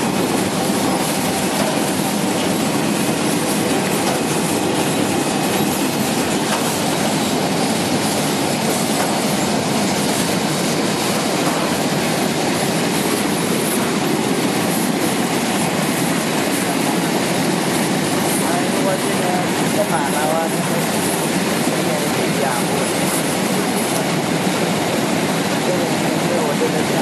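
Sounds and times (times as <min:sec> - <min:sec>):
machine and conveyor rattling: 0:00.0 - 0:27.0.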